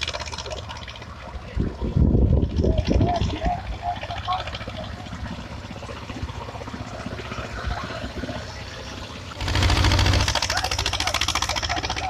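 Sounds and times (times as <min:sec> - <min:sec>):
tractor engine running and revving: 0:00.0 - 0:12.0.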